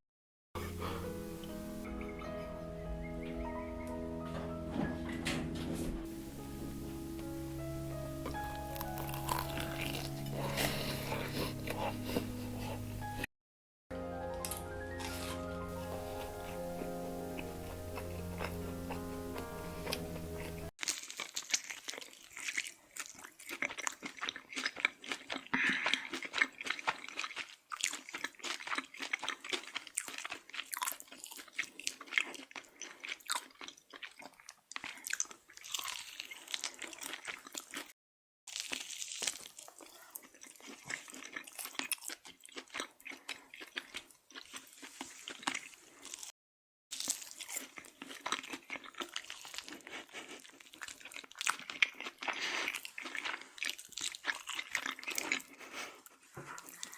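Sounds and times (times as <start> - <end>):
crunchy chewing of food: 6.1 - 13.3, 14.9 - 56.9.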